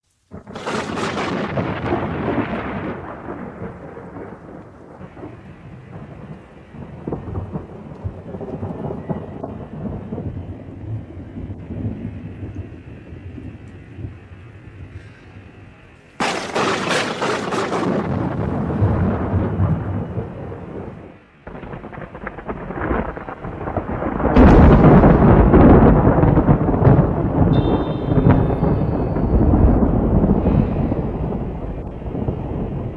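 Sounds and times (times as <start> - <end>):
steady rain falling: 0.0 - 32.9
thunder rumbling: 0.3 - 32.9.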